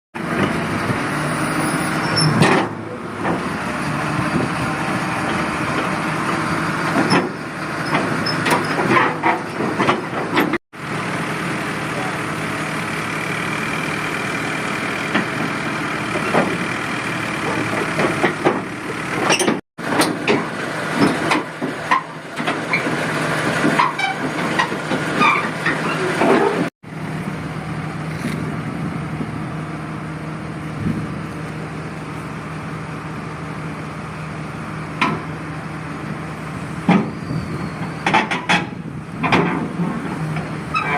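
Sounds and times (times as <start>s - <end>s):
diesel excavator engines running: 0.2s - 40.9s.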